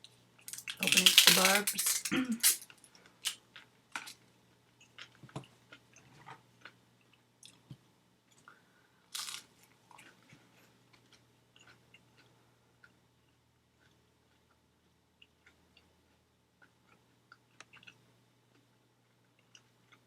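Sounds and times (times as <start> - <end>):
chewing crunchy food: 0.4 - 7.7, 8.3 - 20.0.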